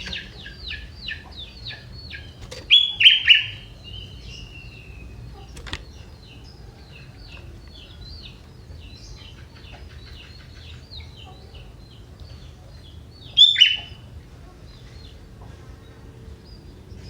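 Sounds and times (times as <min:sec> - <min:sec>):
bird singing high chirps: 0:00.0 - 0:14.1.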